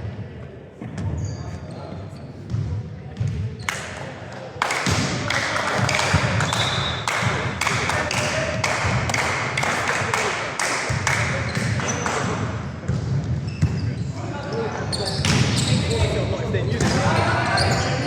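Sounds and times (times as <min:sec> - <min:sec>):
volleyball thudding in a hall: 0:00.0 - 0:18.0.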